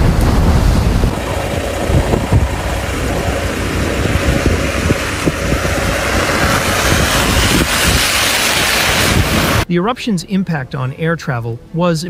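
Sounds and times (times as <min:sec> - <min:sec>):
low rumble: 0:00.0 - 0:09.7
wind buffeting microphone: 0:00.0 - 0:09.7.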